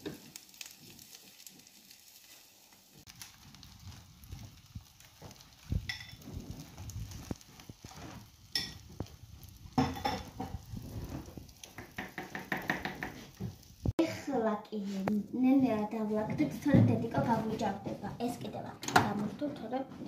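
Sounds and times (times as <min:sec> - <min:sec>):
food sizzling in frying pan: 0:00.0 - 0:18.4.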